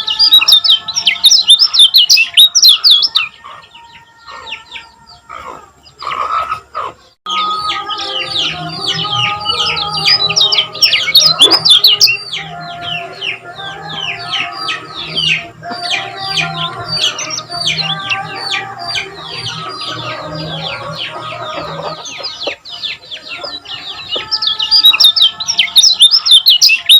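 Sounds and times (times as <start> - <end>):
bird chirping rapidly: 0.0 - 3.4, 5.8 - 26.9.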